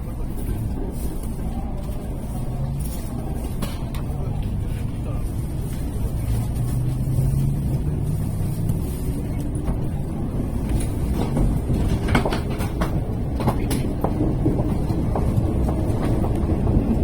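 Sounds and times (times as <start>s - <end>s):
train hum: 0.0s - 17.0s
train rumbling slowly: 0.0s - 17.0s
wheels clicking over track: 2.9s - 17.0s.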